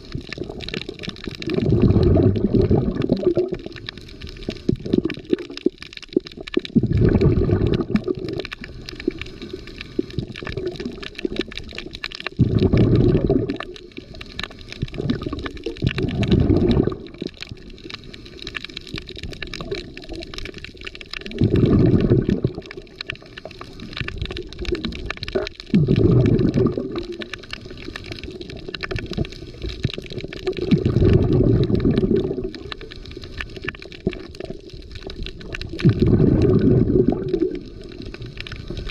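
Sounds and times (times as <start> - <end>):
underwater exhalation bubbles: 0.0 - 18.0, 18.6 - 38.9
faint steady crackle: 0.0 - 38.9.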